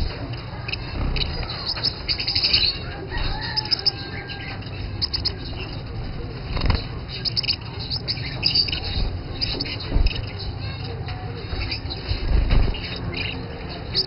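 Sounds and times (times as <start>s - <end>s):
finches chirping: 0.0s - 14.0s
wings fluttering: 0.0s - 14.0s.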